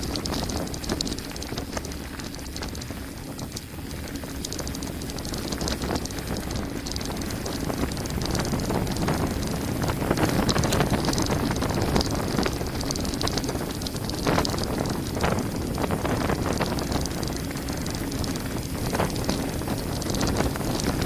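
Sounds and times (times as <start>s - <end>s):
bike rattling clicks: 0.0s - 21.0s
wind rushing over microphone: 0.0s - 21.0s.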